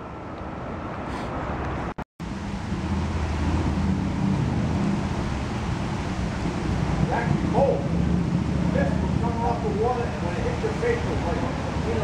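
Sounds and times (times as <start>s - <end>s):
heavy rain on water: 2.2s - 12.0s.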